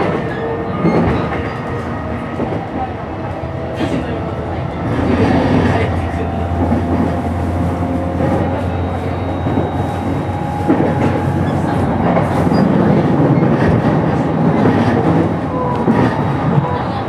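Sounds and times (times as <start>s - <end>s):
train wheel and rail rumble: 0.0s - 17.0s.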